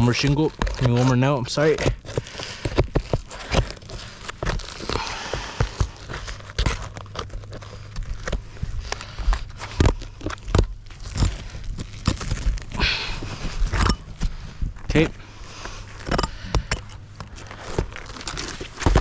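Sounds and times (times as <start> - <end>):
shingles scraping: 0.0 - 19.0.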